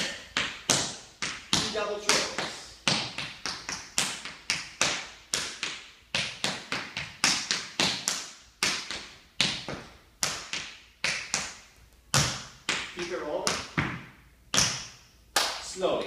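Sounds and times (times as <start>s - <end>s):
tap shoes on wooden floor: 0.4s - 14.9s.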